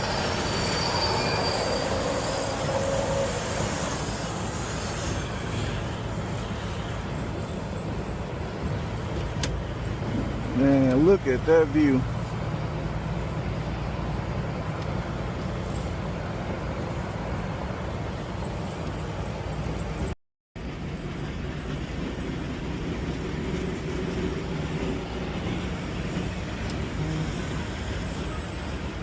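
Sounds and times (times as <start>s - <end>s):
road noise: 0.0s - 29.0s
diesel truck engine rumble: 1.3s - 29.0s.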